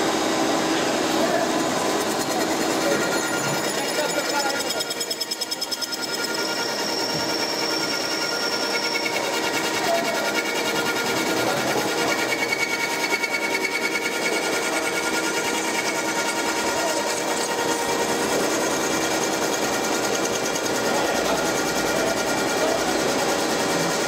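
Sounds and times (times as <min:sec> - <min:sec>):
machine cutter cutting metal: 0:00.0 - 0:24.0
machine whining tones: 0:00.0 - 0:24.0.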